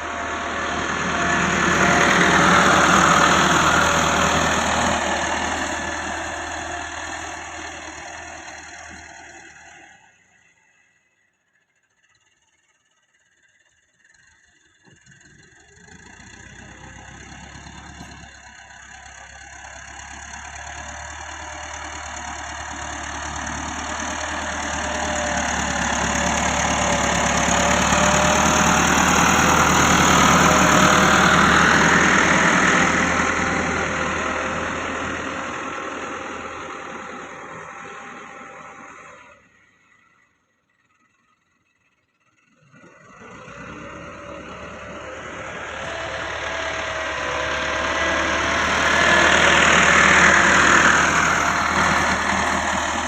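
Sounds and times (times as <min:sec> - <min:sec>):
tractor diesel engine running: 0:00.0 - 0:10.4, 0:13.2 - 0:53.0.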